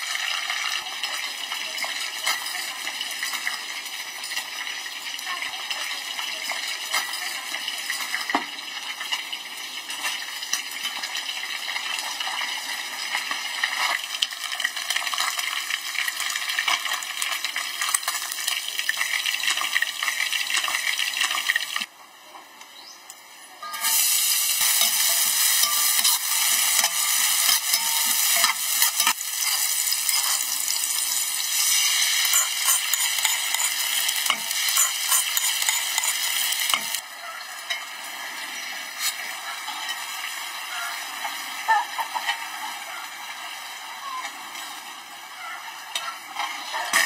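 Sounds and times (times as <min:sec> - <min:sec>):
fish sizzling in hot oil: 0:00.0 - 0:21.9, 0:23.7 - 0:47.0.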